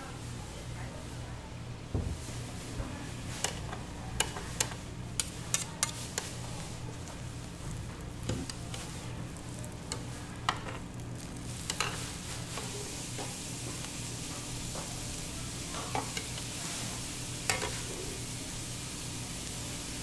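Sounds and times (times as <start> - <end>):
egg sizzling in a pan: 3.4 - 20.0.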